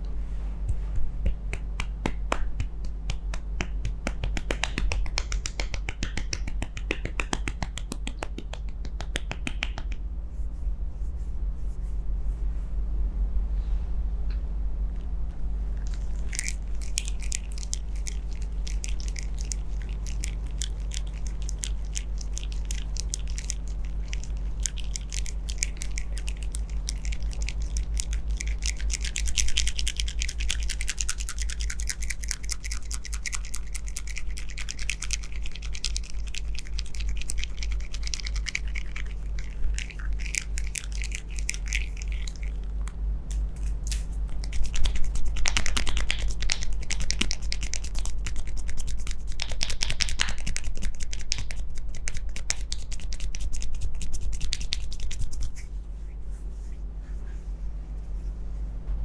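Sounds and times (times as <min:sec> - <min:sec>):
low hum: 0:00.0 - 0:59.0
fingertips scratching through hair: 0:00.6 - 0:12.6, 0:15.8 - 0:58.4.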